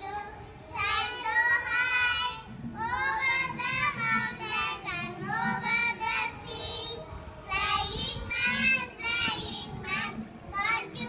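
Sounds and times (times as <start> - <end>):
young children singing: 0.0 - 11.0.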